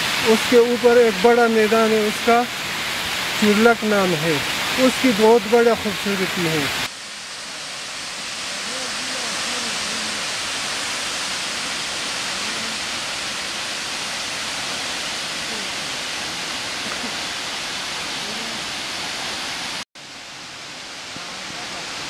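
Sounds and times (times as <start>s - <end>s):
waterfall rushing and splashing: 0.0s - 22.0s.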